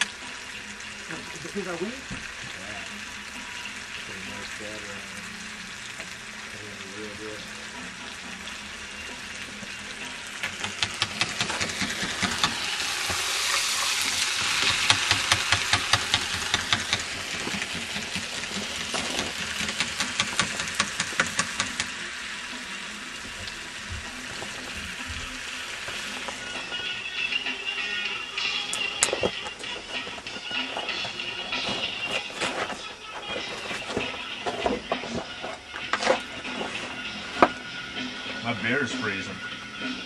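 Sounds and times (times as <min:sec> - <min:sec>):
wings deep-frying in oil: 0:00.0 - 0:40.0.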